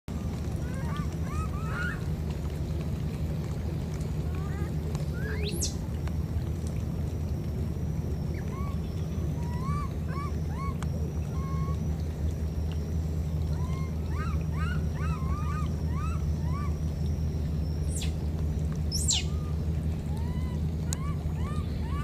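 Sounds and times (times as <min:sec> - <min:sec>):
low motor-like hum: 0:00.0 - 0:22.0.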